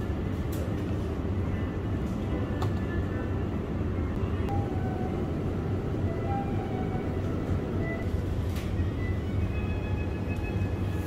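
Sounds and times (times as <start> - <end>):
supermarket background rumble: 0.0 - 11.0.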